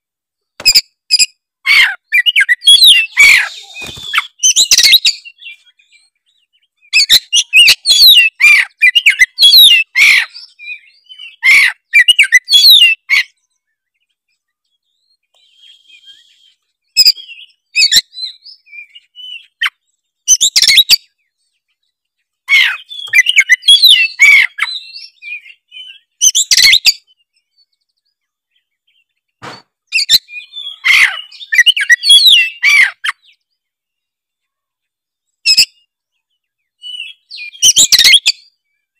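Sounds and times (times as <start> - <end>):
bird singing whistled notes: 2.1 - 34.2, 35.2 - 38.9.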